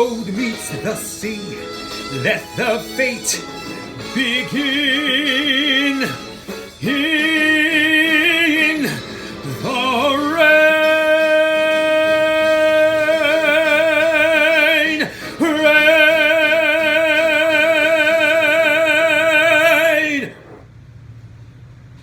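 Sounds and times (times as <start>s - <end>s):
man singing held notes: 0.0s - 20.6s.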